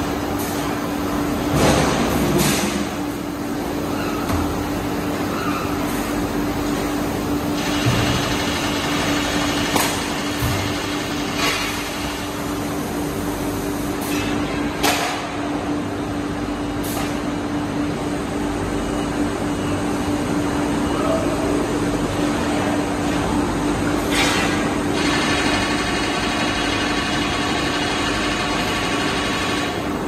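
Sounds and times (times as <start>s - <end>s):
machinery hum: 0.0s - 30.0s.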